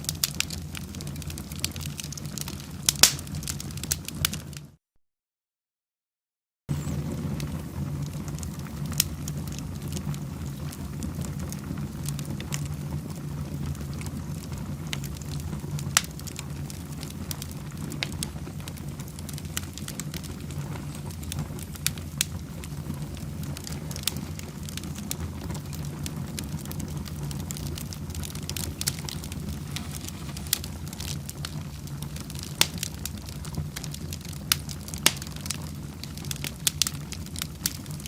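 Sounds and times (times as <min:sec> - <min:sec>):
fire pops: 0:00.0 - 0:04.7, 0:06.7 - 0:38.0
wood fire crackling: 0:00.0 - 0:04.8, 0:06.7 - 0:38.0
low background rumble: 0:06.7 - 0:38.0.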